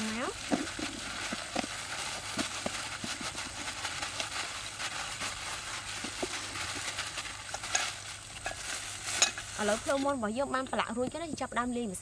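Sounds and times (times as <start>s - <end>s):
wet handling of raw meat: 0.0s - 10.1s.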